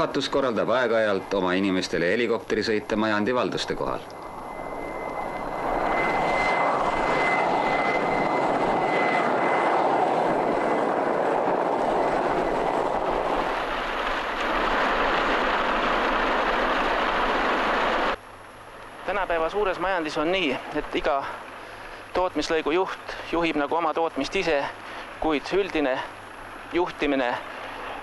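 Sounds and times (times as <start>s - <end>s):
helicopter turbines and rotor: 0.0s - 28.0s
thin high whine: 0.0s - 28.0s.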